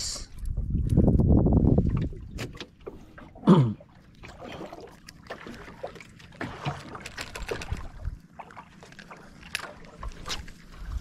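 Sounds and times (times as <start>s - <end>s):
knocks and clicks in boat: 0.3s - 11.0s.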